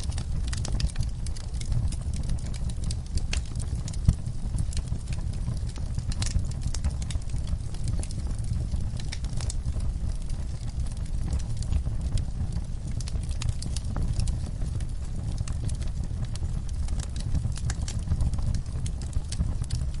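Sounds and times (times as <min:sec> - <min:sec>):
low roar of burning: 0:00.0 - 0:20.0
wood fire crackling and popping: 0:00.0 - 0:20.0.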